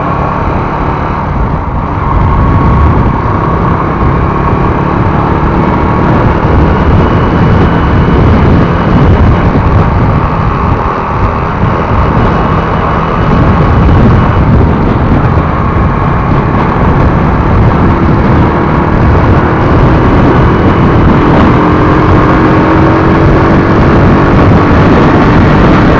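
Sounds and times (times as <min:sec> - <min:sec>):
motorcycle engine running: 0:00.0 - 0:25.9
wind rushing over microphone: 0:00.0 - 0:25.9.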